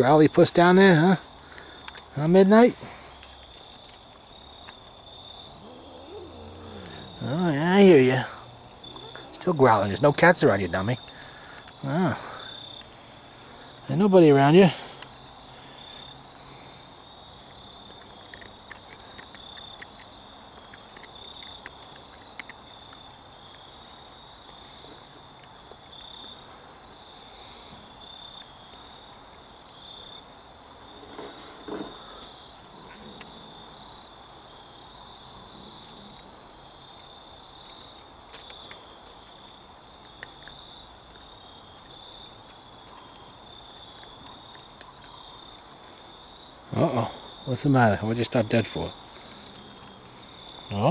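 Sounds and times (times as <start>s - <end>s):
crickets chirping: 0.0s - 50.9s.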